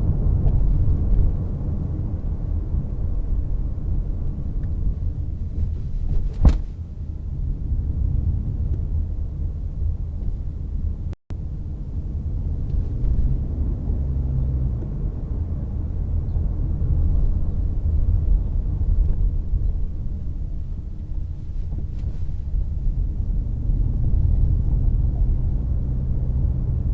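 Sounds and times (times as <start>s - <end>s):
car road and tyre rumble: 0.0s - 26.9s.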